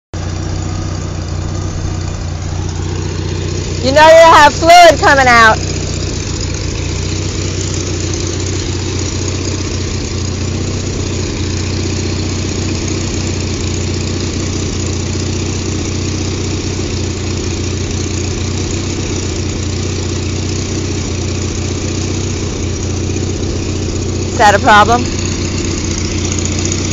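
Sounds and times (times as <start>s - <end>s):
engine idling: 0.2s - 26.9s.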